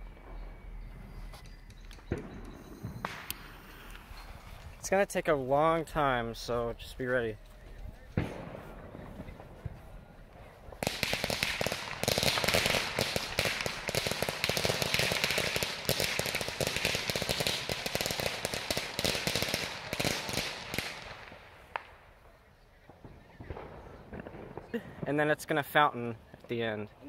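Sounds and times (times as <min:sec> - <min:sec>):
firecrackers crackling: 0:00.0 - 0:26.8.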